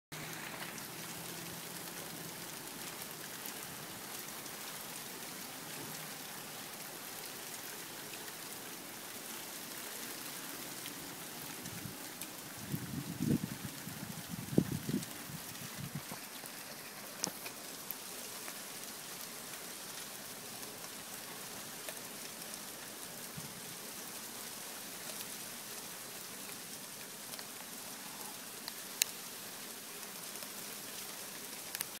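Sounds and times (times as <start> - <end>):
hail falling on wooden deck: 0.2 - 32.0.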